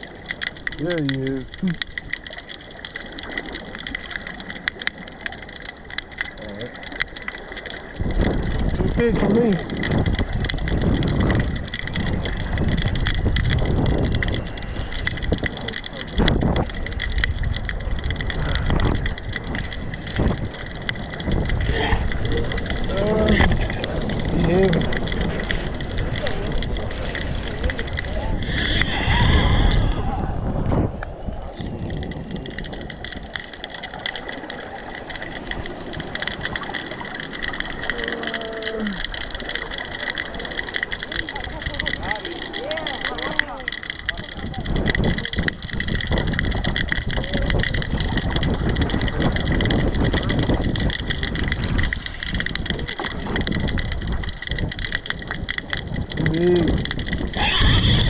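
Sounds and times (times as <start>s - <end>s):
fishing reel clicking and rattling: 0.0s - 30.1s, 31.1s - 58.0s
wind buffeting microphone: 0.0s - 58.0s.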